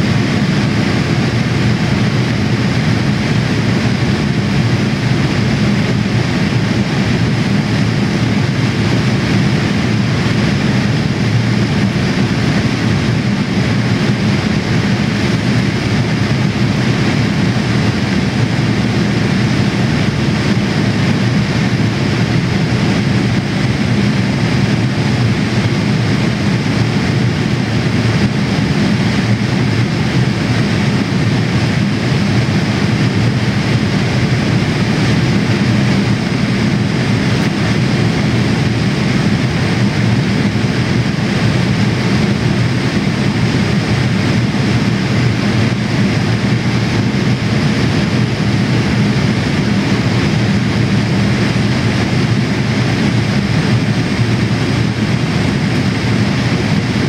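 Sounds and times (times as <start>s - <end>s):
air rushing over fuselage: 0.0s - 57.0s
jet engine hum: 0.0s - 57.0s.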